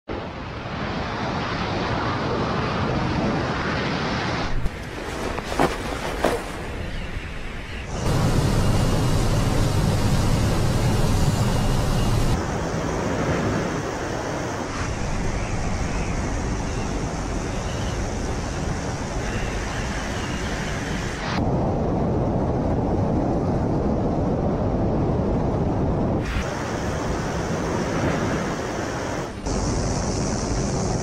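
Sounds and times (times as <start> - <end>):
rushing wind noise: 0.1 - 31.0.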